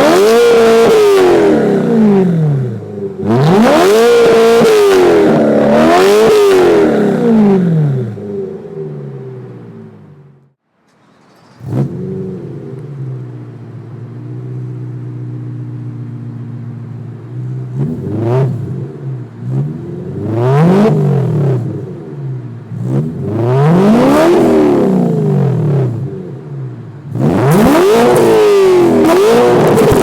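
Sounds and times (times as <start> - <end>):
car engine starting and revving: 0.0 - 30.0.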